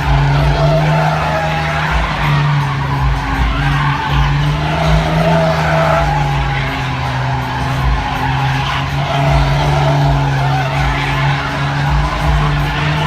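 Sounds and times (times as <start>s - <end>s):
car engine at high revs: 0.0s - 13.0s
tyres squealing: 0.0s - 13.0s.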